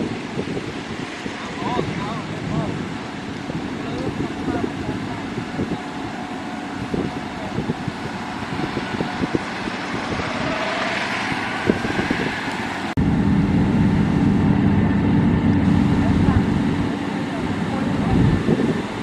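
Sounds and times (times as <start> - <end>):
heavy machinery engine running: 0.0 - 19.0.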